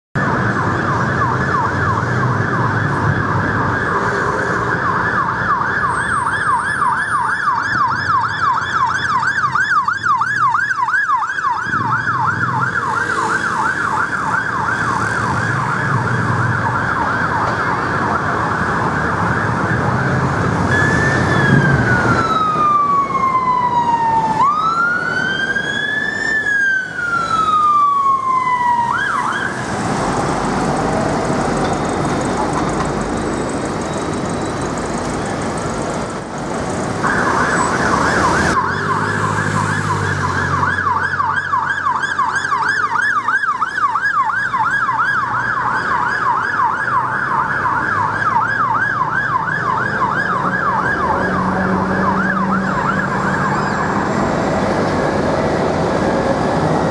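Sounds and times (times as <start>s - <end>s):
siren yelp: 0.2s - 30.0s, 37.0s - 54.4s
city traffic noise: 0.2s - 56.9s
siren wail: 0.2s - 56.9s.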